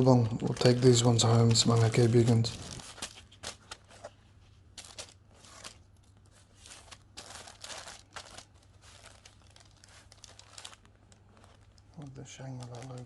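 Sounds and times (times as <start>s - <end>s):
wrapping crinkling and rustling: 0.0s - 13.0s.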